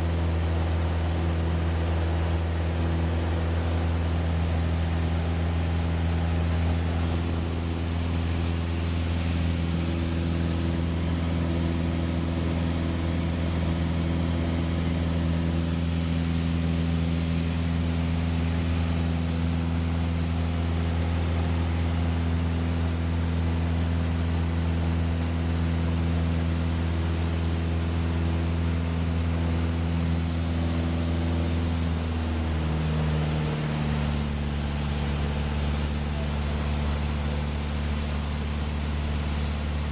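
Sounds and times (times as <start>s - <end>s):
airplane piston engine drone: 0.0s - 39.9s.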